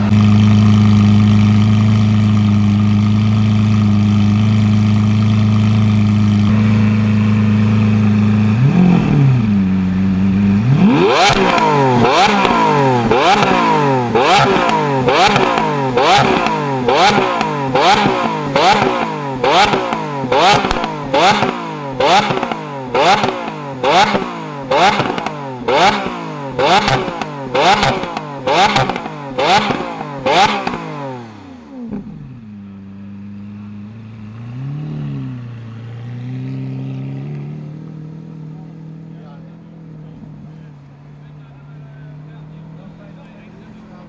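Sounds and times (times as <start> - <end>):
car engine idling: 0.0 - 44.0
car engine revving: 0.0 - 44.0.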